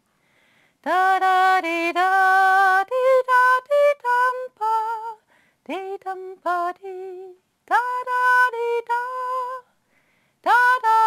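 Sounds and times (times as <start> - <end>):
woman singing wordless melody: 0.8 - 9.8, 10.4 - 11.0.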